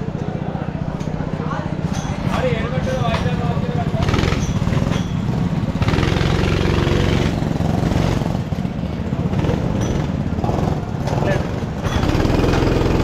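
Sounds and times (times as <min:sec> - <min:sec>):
go-kart engines idling: 0:00.0 - 0:13.0.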